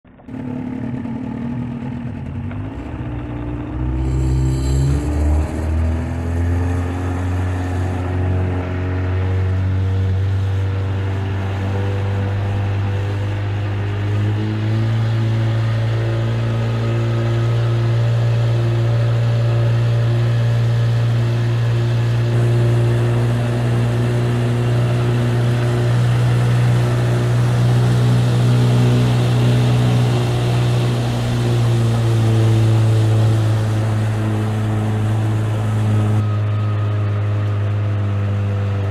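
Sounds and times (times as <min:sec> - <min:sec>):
outboard motor running: 0:00.1 - 0:38.9.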